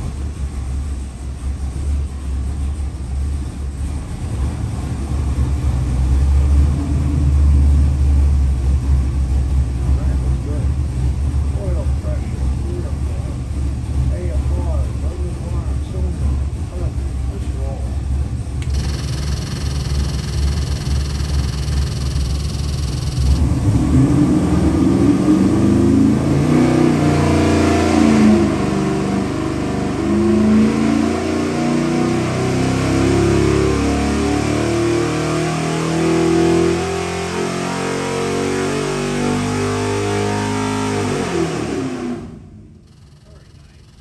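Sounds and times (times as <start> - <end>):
engine revving under load: 4.0 - 44.0.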